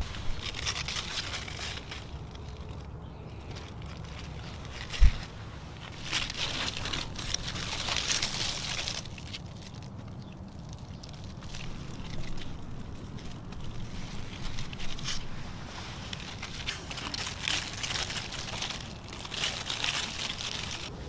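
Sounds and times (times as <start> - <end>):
leaves and vines rustling: 0.0 - 21.0
steady low rumble: 0.0 - 21.0.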